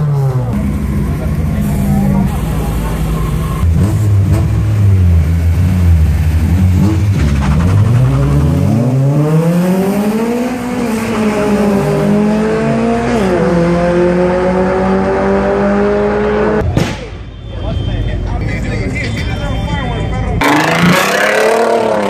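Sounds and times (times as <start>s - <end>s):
car engines accelerating: 0.0s - 16.7s, 18.4s - 22.0s.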